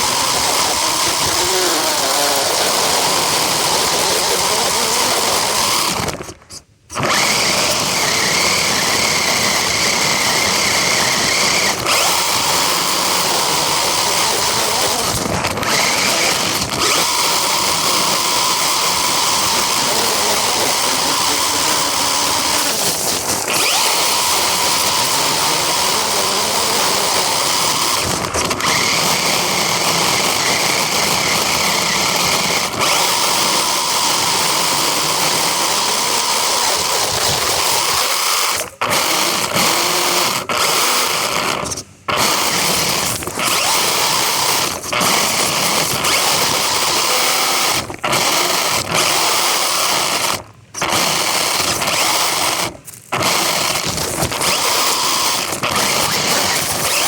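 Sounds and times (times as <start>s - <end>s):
toy car electric motor whining: 0.0s - 57.0s.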